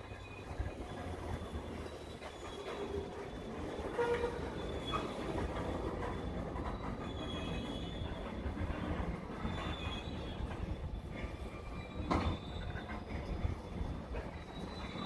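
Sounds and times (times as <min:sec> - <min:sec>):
faint wheel squeal: 0:00.0 - 0:15.0.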